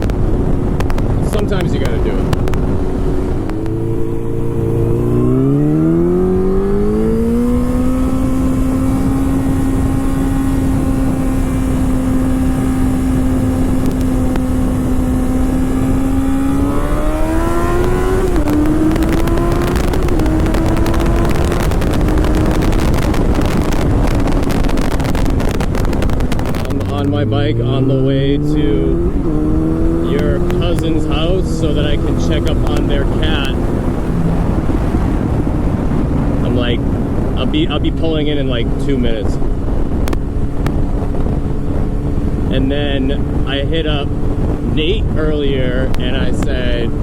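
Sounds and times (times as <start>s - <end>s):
motorcycle engine accelerating: 0.0s - 47.0s
wind buffeting microphone: 0.0s - 47.0s.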